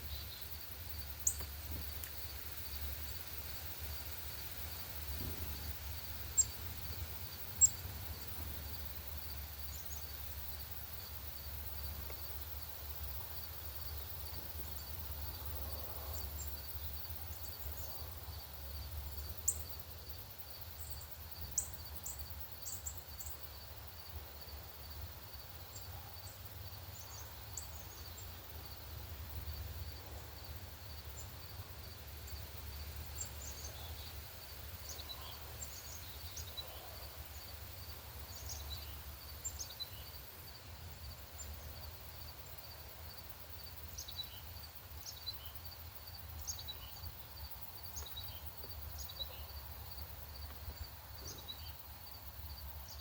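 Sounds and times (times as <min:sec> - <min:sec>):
insect chirping: 0:00.0 - 0:53.0.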